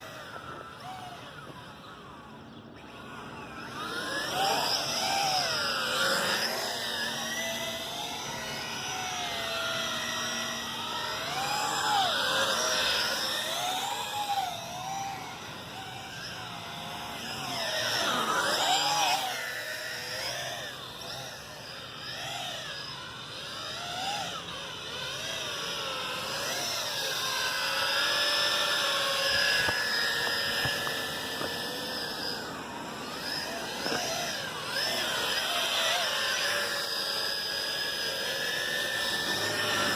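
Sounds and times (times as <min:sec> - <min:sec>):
steady mechanical hum: 0:00.0 - 0:39.9
toy electric motors whining: 0:00.0 - 0:39.9.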